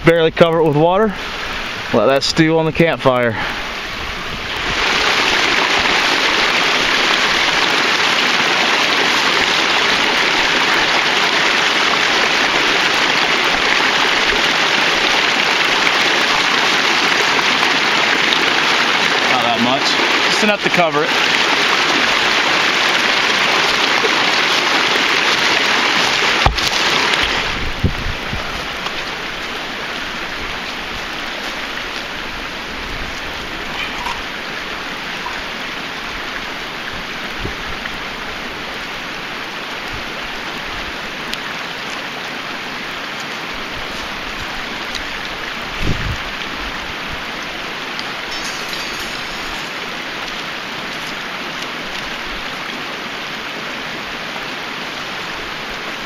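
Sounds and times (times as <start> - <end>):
creek splashing over rocks: 0.1 - 56.0.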